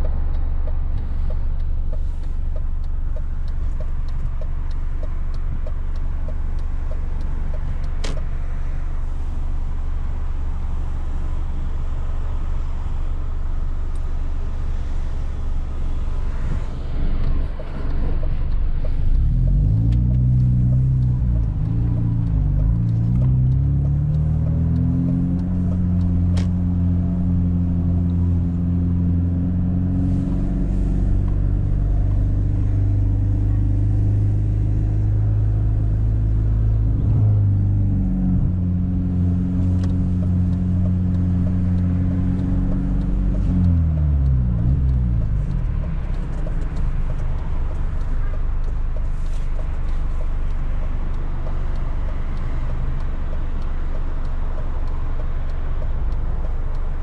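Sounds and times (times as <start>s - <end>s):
car engine with loud exhaust: 0.0s - 57.0s.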